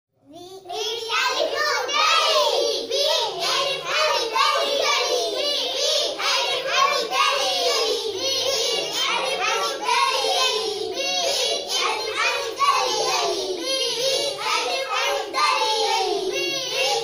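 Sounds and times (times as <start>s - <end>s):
children singing in unison: 0.7s - 17.0s.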